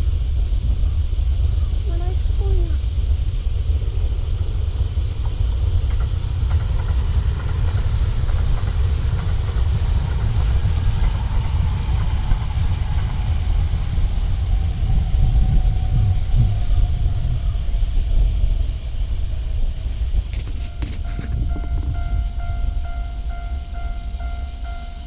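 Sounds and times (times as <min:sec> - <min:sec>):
electric train rumbling past: 0:00.0 - 0:25.0
faint falling whine: 0:00.0 - 0:25.0.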